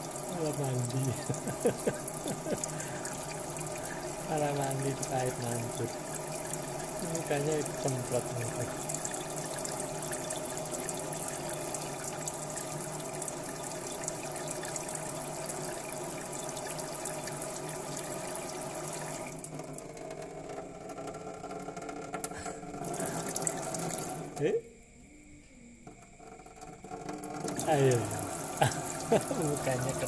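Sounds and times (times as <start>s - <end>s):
water spraying into steel sink: 0.0s - 19.4s, 22.3s - 24.5s, 27.3s - 30.0s.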